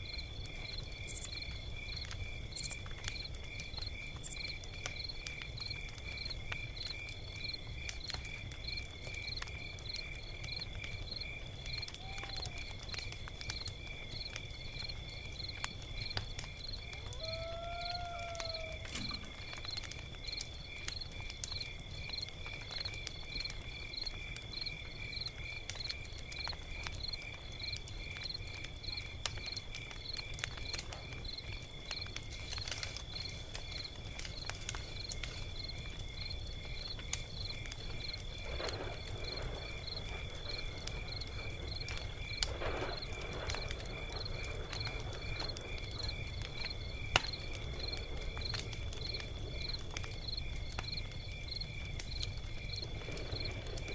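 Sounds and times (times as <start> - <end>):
log fire crackling and popping: 0.0 - 53.9
pulsing insect chorus: 0.0 - 53.9.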